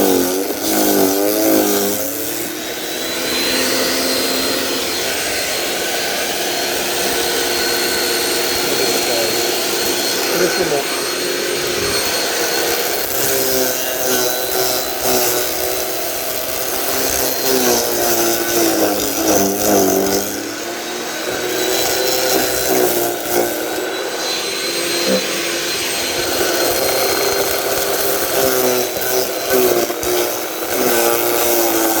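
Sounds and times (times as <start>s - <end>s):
electric wood chipper chipping branches: 0.0s - 32.0s.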